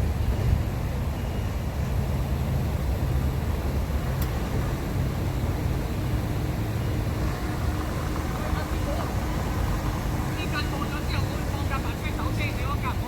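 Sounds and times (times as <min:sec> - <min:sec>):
faint engine hum: 0:00.0 - 0:13.0
vehicle engine and tyres rumbling: 0:00.0 - 0:13.0.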